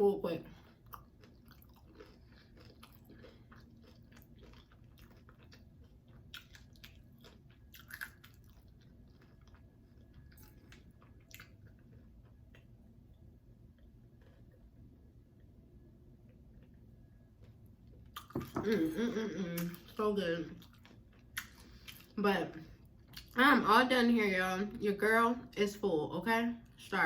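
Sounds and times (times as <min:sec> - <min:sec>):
person chewing food: 0:00.4 - 0:20.0, 0:20.6 - 0:23.4.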